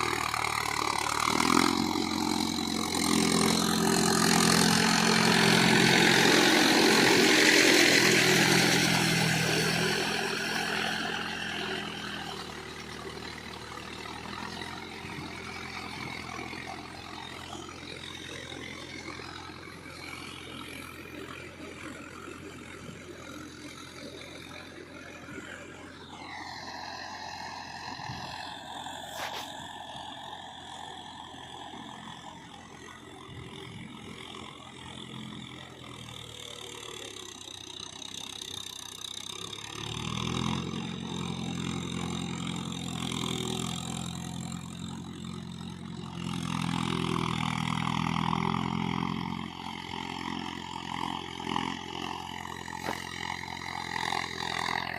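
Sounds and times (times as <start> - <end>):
tractor diesel engine working: 0.0 - 54.9.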